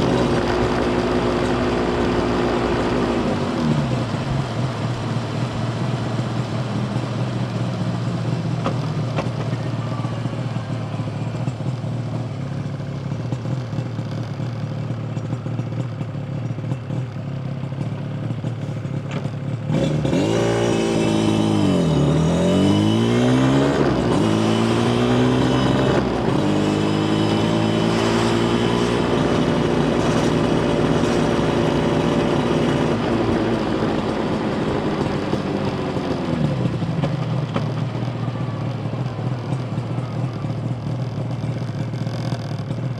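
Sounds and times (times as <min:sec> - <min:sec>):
two-stroke motorcycle engine: 0:00.0 - 0:42.9.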